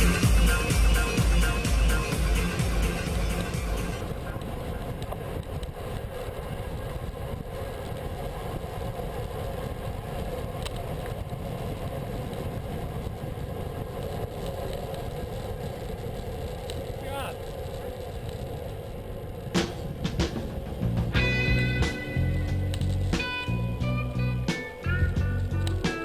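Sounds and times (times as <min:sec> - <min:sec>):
bicycle tyres rumbling on asphalt: 0:00.0 - 0:26.0
wind noise on microphone: 0:00.0 - 0:26.0.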